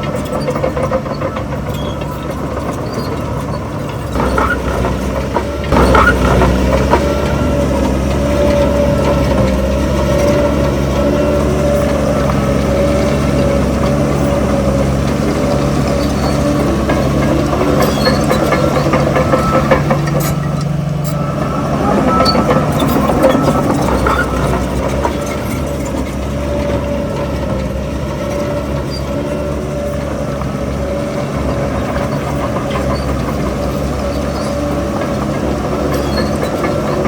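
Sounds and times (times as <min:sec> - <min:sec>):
heavy diesel engine running: 0:00.0 - 0:37.0
machinery clatter and knocks: 0:00.0 - 0:37.0.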